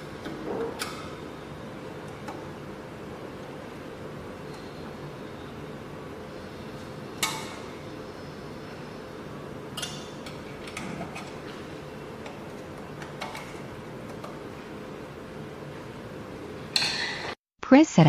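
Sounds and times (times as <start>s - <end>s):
low machine hum: 0.0s - 17.3s.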